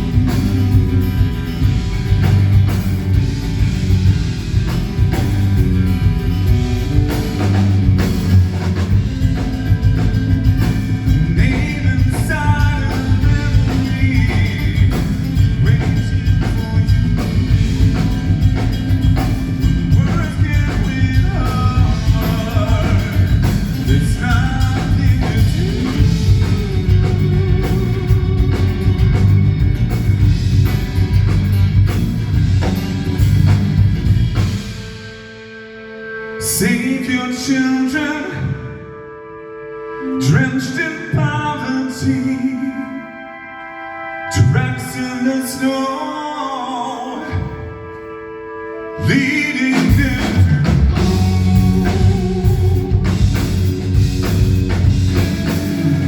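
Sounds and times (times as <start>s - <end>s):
progressive rock band playing live: 0.0s - 56.0s.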